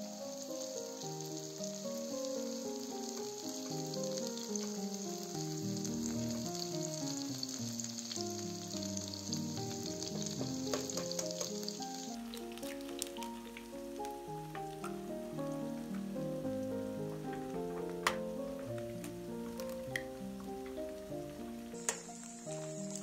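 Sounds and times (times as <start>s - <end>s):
oil sizzling in a pan: 0.0s - 23.0s
soft background music: 0.0s - 23.0s.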